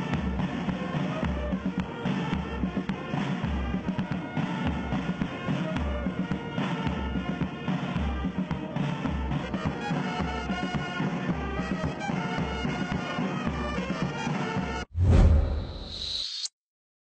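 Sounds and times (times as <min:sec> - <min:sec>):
brass marching band playing: 0:00.0 - 0:14.9.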